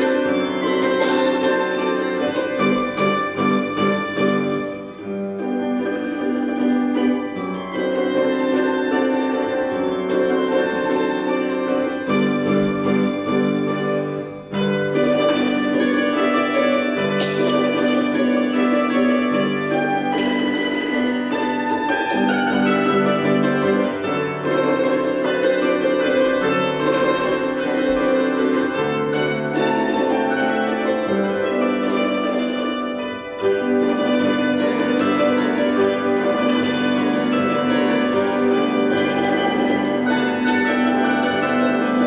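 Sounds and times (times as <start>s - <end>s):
hammered dulcimers playing: 0.0s - 42.0s.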